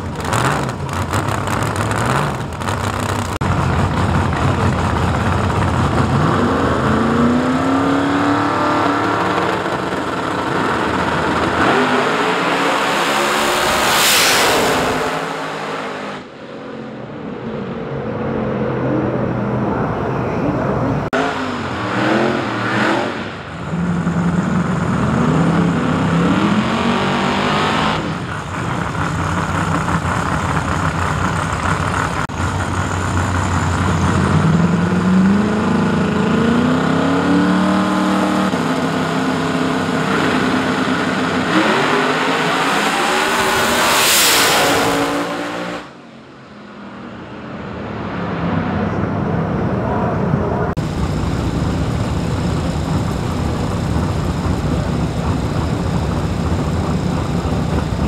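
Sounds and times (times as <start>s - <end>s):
drag racing engines revving: 0.0s - 58.0s.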